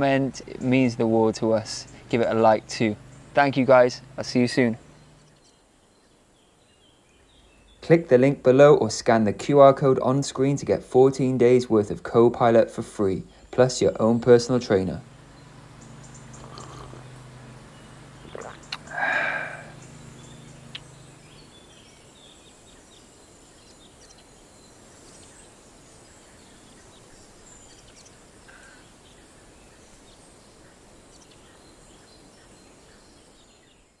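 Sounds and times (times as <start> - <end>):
bird chirps: 0.0 - 8.1, 13.1 - 34.0
steady low hiss: 0.0 - 34.0.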